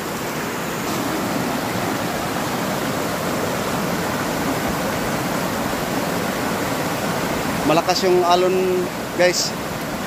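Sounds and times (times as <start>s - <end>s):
river rapids rushing over rocks: 0.0s - 10.0s.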